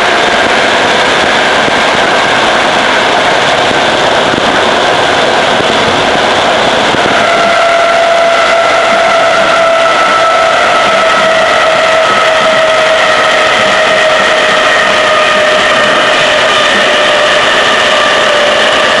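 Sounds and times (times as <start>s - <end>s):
train rushing noise: 0.0s - 19.0s.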